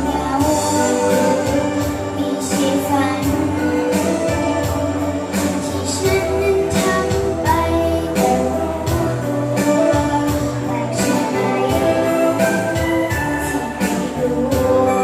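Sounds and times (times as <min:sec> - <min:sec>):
music with steady beat: 0:00.0 - 0:15.0
person singing: 0:00.0 - 0:15.0.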